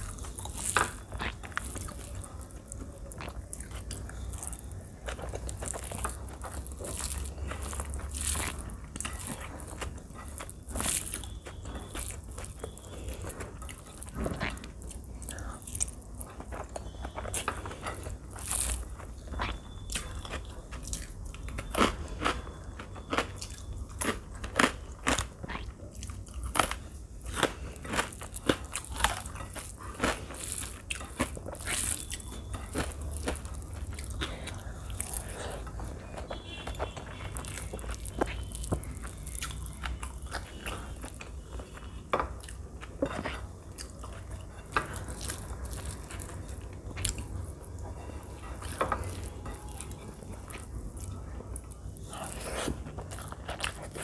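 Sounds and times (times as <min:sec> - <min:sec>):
chewing food: 0:00.0 - 0:54.0
crunching fried crackers: 0:00.0 - 0:54.0.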